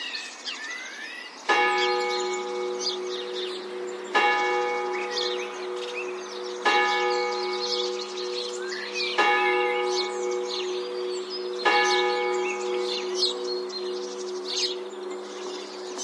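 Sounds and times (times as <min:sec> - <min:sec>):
small birds chirping: 0:00.0 - 0:16.0
church bell tolling: 0:01.5 - 0:16.0.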